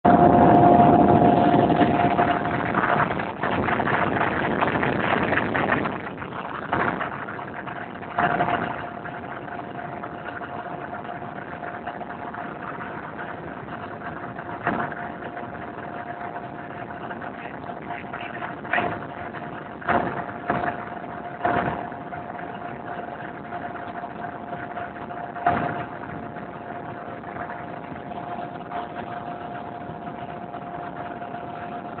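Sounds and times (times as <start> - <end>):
helicopter engine and rotor noise: 0.0 - 32.0.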